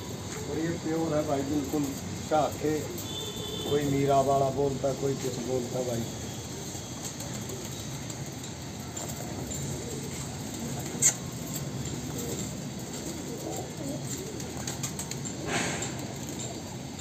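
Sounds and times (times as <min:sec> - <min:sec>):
pigeons cooing softly: 0:00.0 - 0:17.0.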